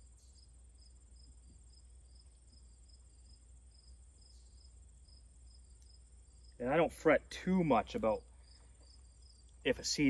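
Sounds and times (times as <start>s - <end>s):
crickets trilling and chirping: 0.0s - 10.0s.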